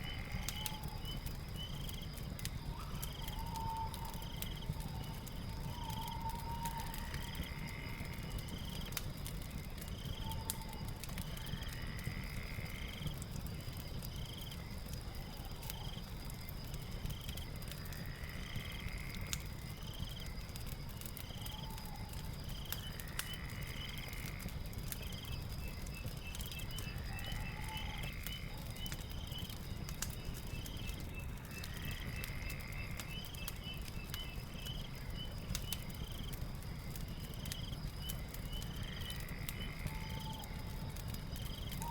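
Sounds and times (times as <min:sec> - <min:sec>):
fire crackling and popping: 0:00.0 - 0:41.9
high insect trill: 0:00.0 - 0:41.9.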